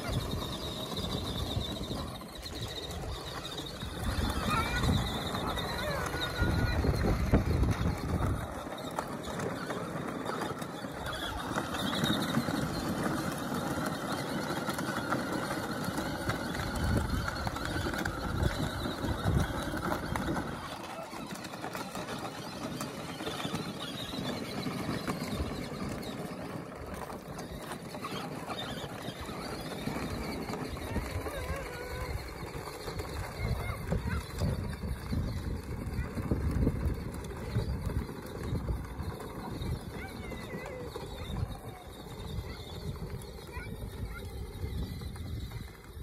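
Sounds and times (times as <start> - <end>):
atv motors: 0.0 - 46.0
tyres on gravel: 0.0 - 46.0.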